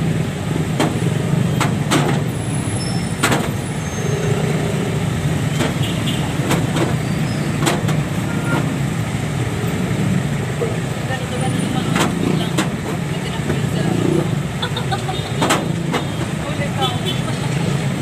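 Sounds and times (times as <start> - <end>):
street traffic: 0.0 - 18.0
vehicle engine rumbling: 0.0 - 18.0.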